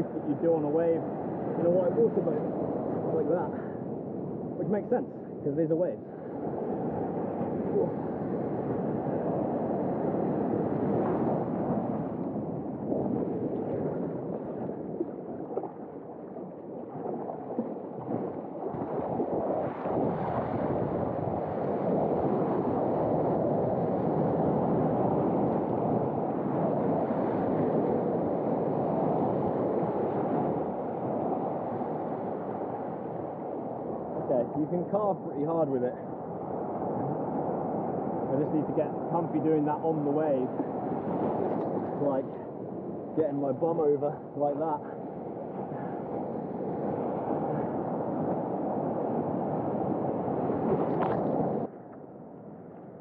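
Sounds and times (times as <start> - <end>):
surf and water rushing: 0.0 - 52.6
wind on microphone: 0.0 - 53.0.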